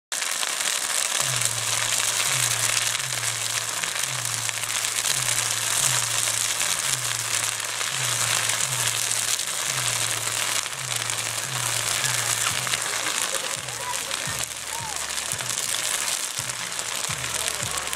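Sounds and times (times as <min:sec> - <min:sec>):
bonfire crackling and hissing: 0:00.1 - 0:17.9
music bass line: 0:01.2 - 0:17.9.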